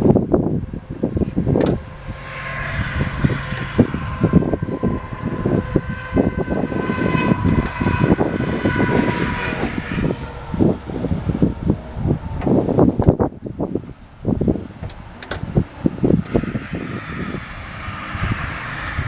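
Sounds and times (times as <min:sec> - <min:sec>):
distant engine droning: 0:00.0 - 0:19.0
wind rumbling on microphone: 0:00.0 - 0:19.0.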